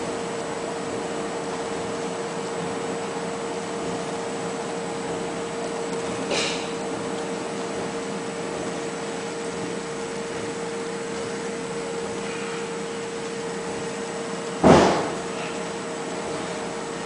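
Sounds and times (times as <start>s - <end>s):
steady machine hum and hiss: 0.0s - 17.0s.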